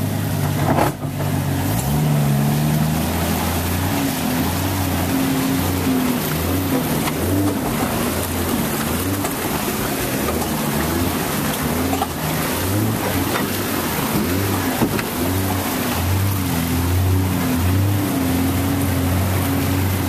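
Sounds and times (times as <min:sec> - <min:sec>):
vehicle engine running: 0:00.0 - 0:20.0
water rushing and splashing: 0:00.0 - 0:20.0.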